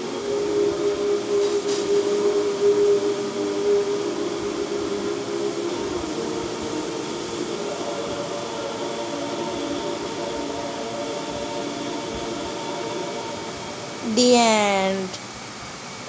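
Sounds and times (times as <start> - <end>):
steady hiss: 0.0 - 14.2
film soundtrack held tones: 0.0 - 15.2.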